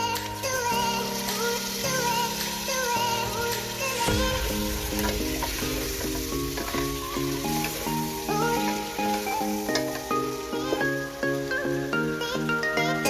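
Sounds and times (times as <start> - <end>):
food sizzling in hot oil: 0.0 - 12.5
instrumental background music: 0.0 - 13.0.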